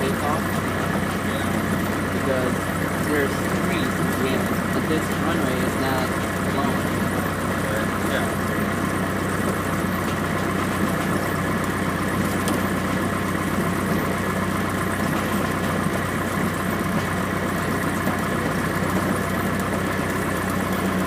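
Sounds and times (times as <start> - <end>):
aircraft piston engine running: 0.0 - 21.0.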